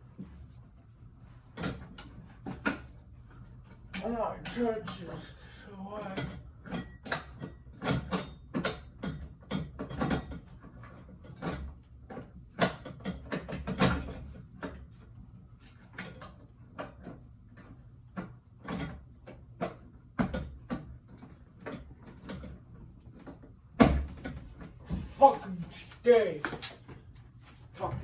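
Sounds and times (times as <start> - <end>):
ceiling fan parts knocking and rattling: 0.0 - 28.0.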